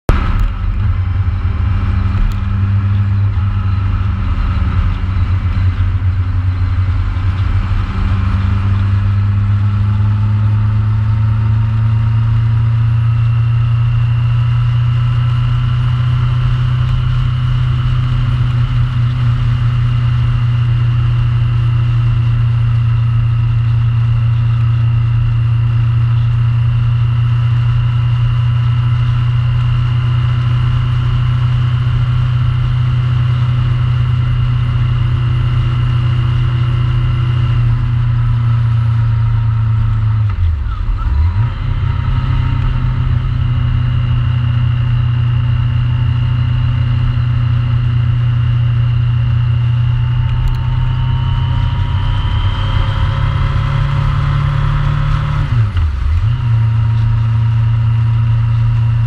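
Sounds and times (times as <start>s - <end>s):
motorcycle engine running: 0.0s - 59.0s
wind and road noise: 0.1s - 59.0s.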